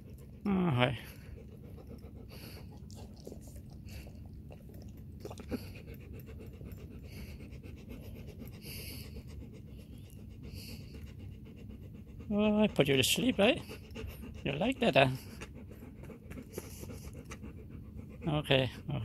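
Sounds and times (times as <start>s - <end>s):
dog panting softly: 0.0s - 19.0s.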